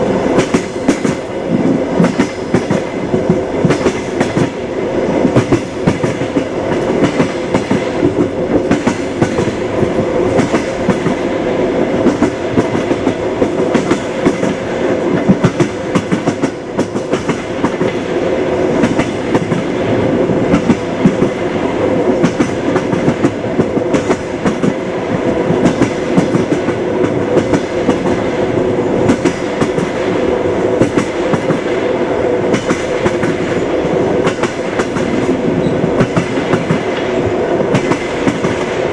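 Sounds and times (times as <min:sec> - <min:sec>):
train wheels clickety-clack: 0:00.0 - 0:38.9.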